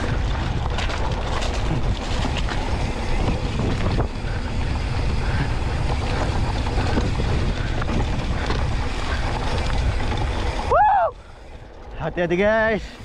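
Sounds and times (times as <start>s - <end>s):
bike knocks and rattles: 0.0s - 11.0s
bike tyres rolling on dirt: 0.0s - 13.0s
wind buffeting microphone: 0.0s - 13.0s.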